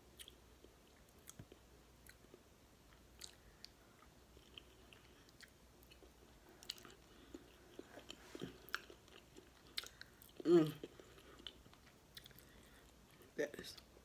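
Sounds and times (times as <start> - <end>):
faint chewing with mouth clicks: 0.1 - 14.0.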